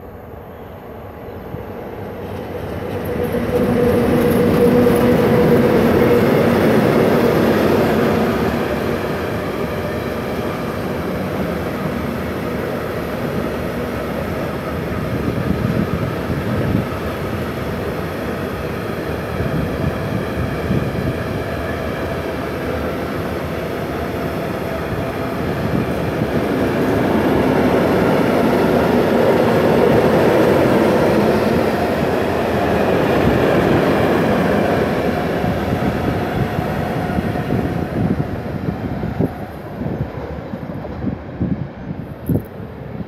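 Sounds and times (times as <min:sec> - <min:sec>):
train wheels rumbling on rail: 0:01.5 - 0:43.0.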